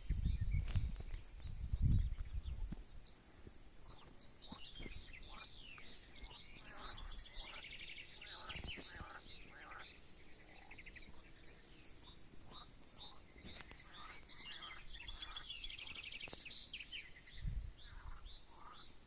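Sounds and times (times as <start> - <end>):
faint outdoor background noise: 0.0 - 19.0
small birds chirping: 0.0 - 19.0.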